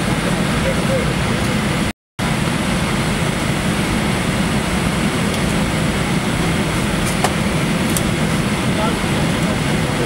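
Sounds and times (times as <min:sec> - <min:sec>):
jet engine and cabin rumble: 0:00.0 - 0:10.0.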